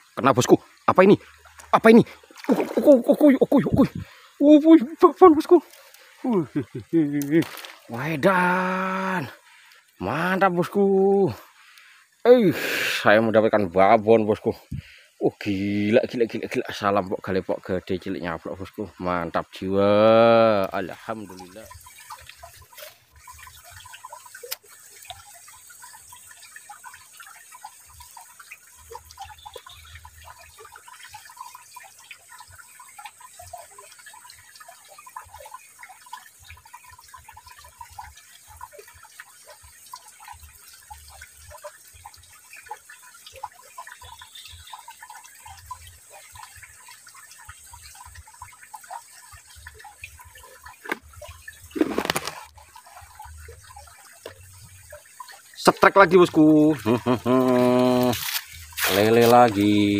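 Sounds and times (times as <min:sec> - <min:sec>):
shallow stream gurgling: 0:00.0 - 0:59.9
water splashes and drips: 0:00.0 - 0:59.9.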